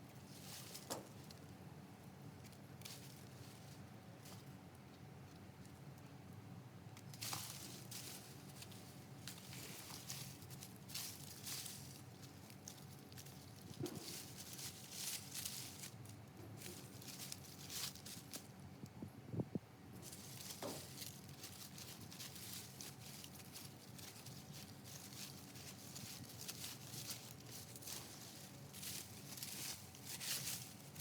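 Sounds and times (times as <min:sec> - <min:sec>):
rustling and crunching of soil: 0:00.0 - 0:31.0.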